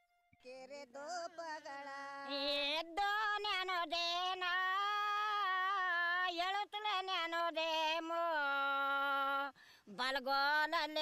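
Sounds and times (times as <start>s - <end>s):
woman singing folk song: 0.4s - 11.0s.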